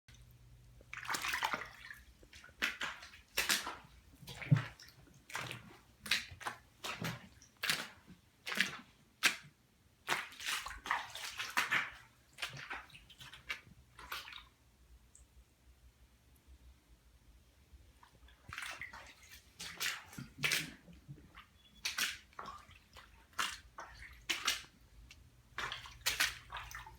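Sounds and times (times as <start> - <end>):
water sloshing and splashing: 0.1 - 14.7, 17.9 - 26.9.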